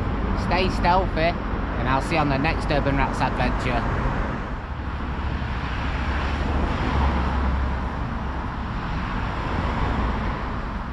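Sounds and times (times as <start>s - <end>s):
cars passing: 0.0s - 10.9s
deep rumble of passing vehicle: 0.0s - 10.9s.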